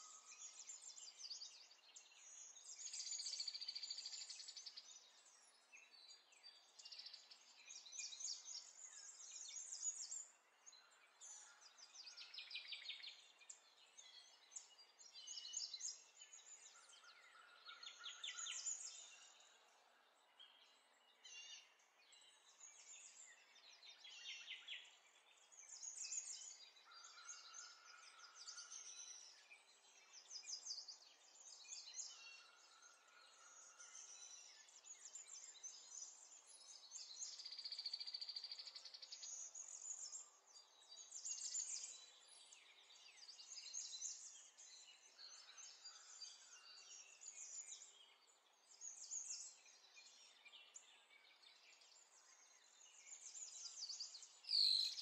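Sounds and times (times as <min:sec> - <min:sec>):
songbirds trilling and chirping: 0:00.0 - 0:55.0.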